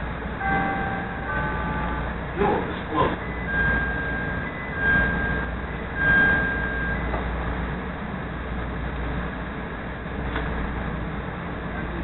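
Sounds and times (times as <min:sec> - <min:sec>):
rail car hum and rumble: 0:00.0 - 0:12.0.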